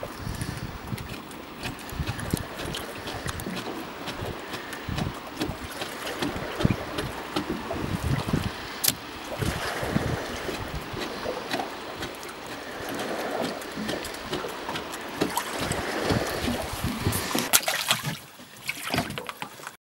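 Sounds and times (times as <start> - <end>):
wind buffeting microphone: 0.0 - 17.5.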